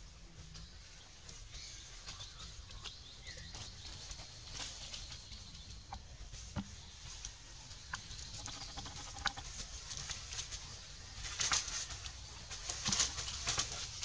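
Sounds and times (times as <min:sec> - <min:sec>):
dry leaves rustling and crackling: 0:00.5 - 0:14.0.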